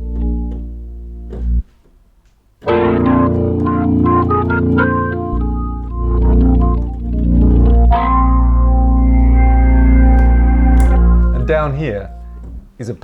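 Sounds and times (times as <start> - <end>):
hammond organ playing: 0.0 - 1.7, 2.6 - 12.7.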